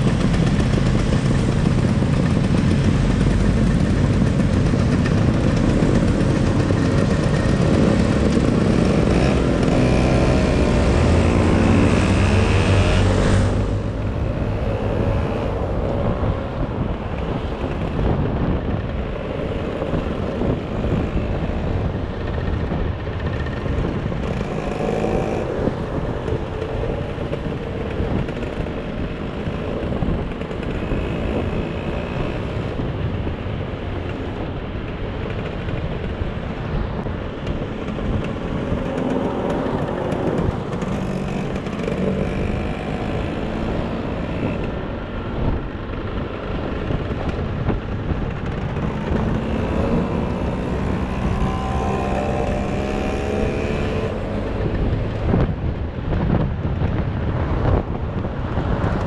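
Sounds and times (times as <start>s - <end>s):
motor scooter engine running: 0.0s - 59.0s
wind rushing over microphone: 0.0s - 59.0s.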